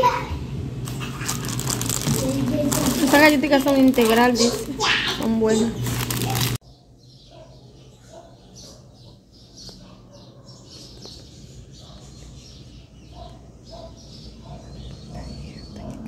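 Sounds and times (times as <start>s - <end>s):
birds chirping: 0.9s - 16.0s.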